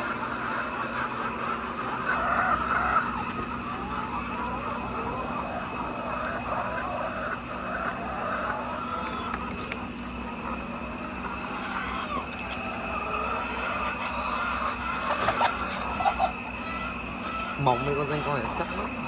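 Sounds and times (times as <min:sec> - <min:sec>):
hens clucking: 0:00.0 - 0:19.0
steady mechanical hum: 0:00.0 - 0:19.0.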